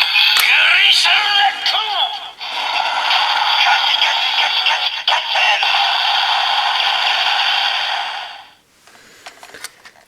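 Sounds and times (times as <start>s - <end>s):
toy electronic sound effects: 0.0s - 8.4s.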